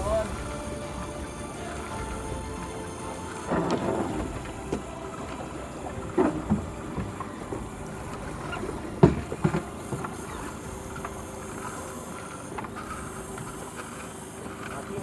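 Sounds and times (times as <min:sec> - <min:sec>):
water wash: 0:00.0 - 0:15.0
wind: 0:00.0 - 0:15.0.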